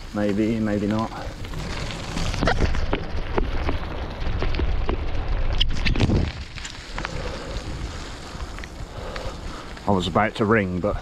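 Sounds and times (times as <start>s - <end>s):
crackling clicks: 0.0s - 10.6s
wind rumbling on microphone: 0.0s - 11.0s.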